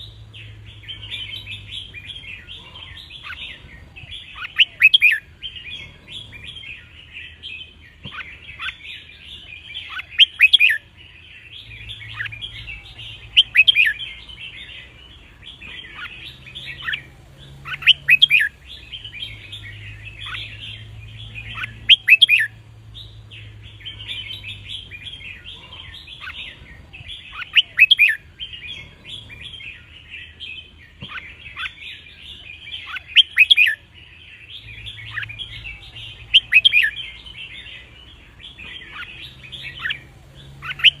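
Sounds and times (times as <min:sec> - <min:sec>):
bird song phrases: 0:00.0 - 0:41.0
birds chattering and chirping: 0:00.0 - 0:41.0.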